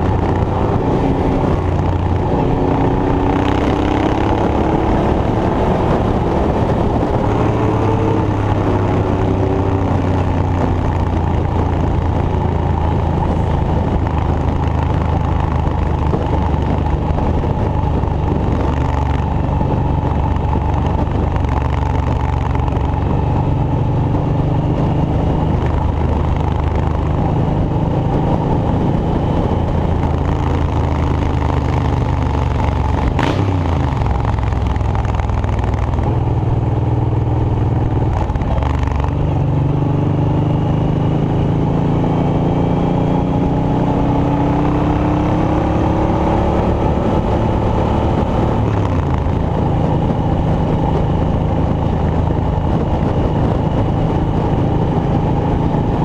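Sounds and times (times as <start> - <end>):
engine running with low hum: 0.0 - 56.0.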